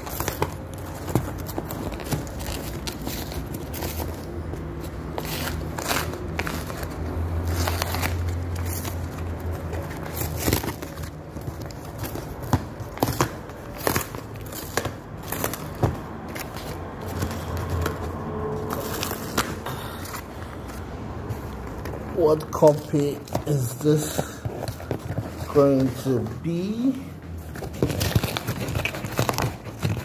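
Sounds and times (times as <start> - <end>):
cardboard and tape ripping: 0.0 - 20.7, 22.4 - 30.0.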